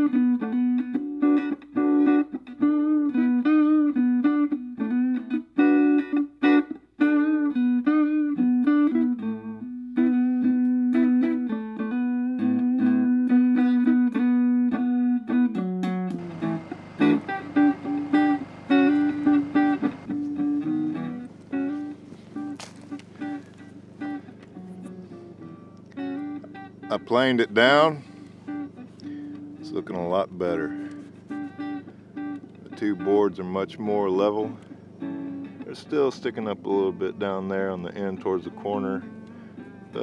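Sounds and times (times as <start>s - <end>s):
plucked guitar notes: 0.0s - 40.0s.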